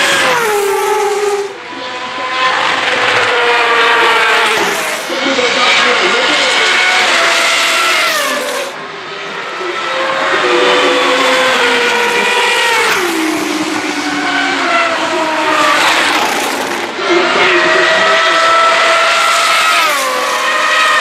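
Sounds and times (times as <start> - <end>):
racing cars passing at full throttle: 0.0 - 21.0.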